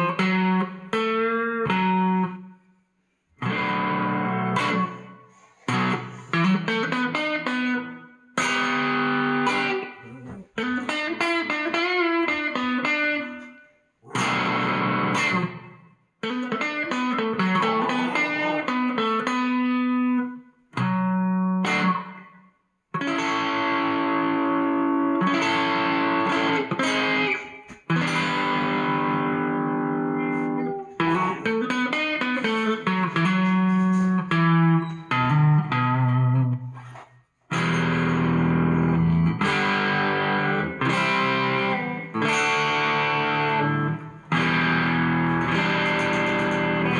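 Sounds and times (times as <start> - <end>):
distorted electric guitar: 0.0 - 2.5, 3.4 - 22.3, 23.0 - 46.9.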